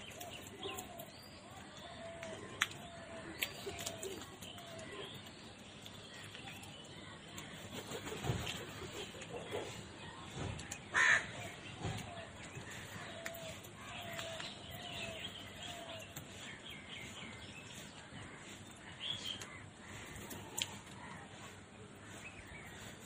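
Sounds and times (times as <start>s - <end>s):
birds calling harshly: 0.0s - 23.0s.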